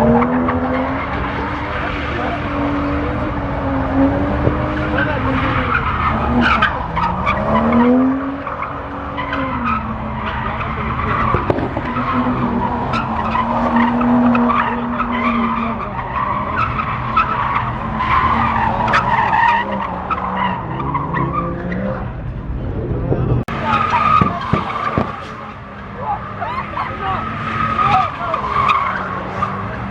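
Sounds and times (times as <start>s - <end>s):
tyres squealing on tarmac: 0.0s - 22.1s, 23.5s - 29.9s
car engine at high revs: 0.0s - 29.9s.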